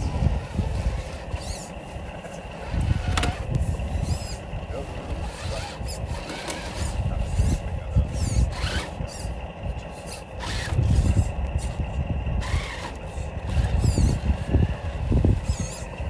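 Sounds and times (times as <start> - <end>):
low rumble over rocks: 0.0 - 16.0
rc car motor whining: 0.0 - 16.0.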